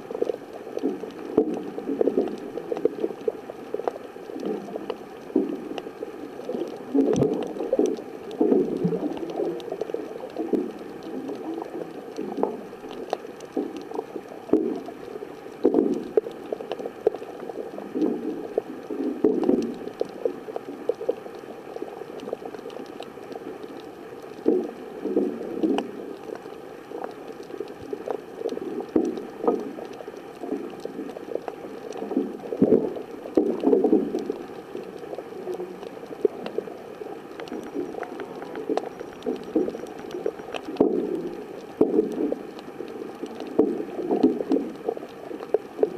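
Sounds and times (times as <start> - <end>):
faint clicks: 0.0 - 45.9
muffled underwater gurgling: 0.0 - 45.9.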